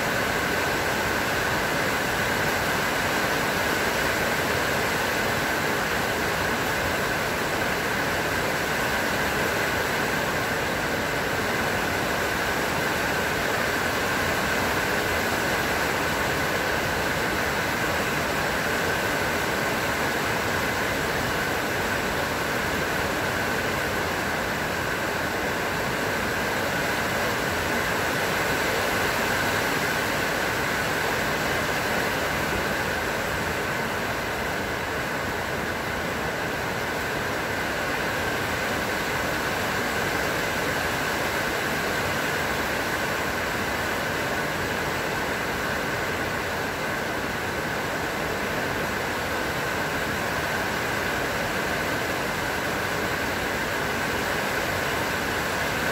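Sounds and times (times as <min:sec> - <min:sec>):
rain falling on foliage: 0:00.0 - 0:55.9.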